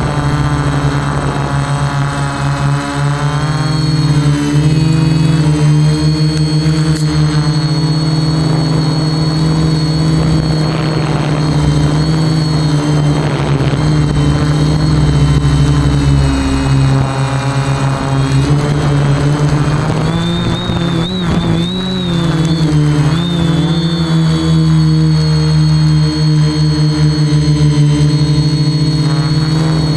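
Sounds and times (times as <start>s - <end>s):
quadcopter propellers whirring: 0.0s - 29.9s.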